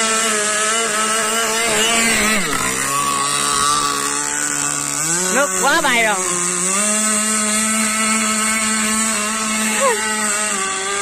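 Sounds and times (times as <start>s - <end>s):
model speedboat engine revving: 0.0s - 11.0s.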